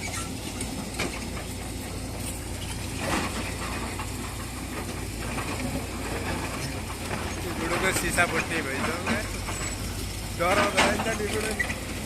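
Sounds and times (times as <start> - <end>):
excavator diesel engines running: 0.0 - 12.0.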